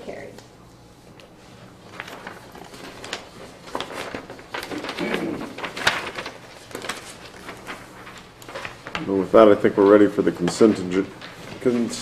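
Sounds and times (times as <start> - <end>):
papers rustling: 1.1 - 12.0.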